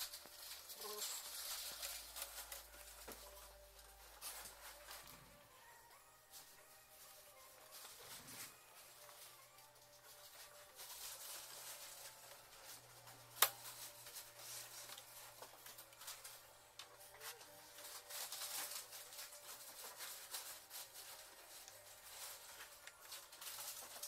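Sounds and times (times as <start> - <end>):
cotton swab rubbing and scraping: 0.0 - 24.0.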